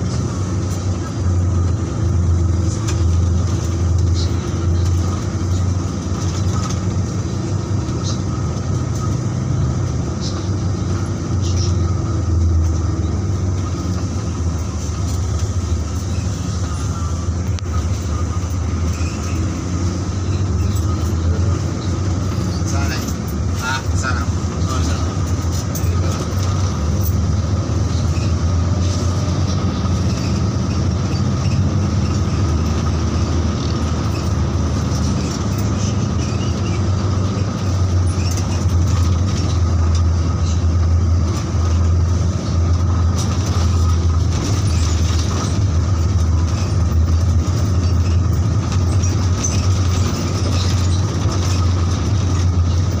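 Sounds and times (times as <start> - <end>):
bus engine drone: 0.0 - 53.0
tyre and road rumble: 0.0 - 53.0.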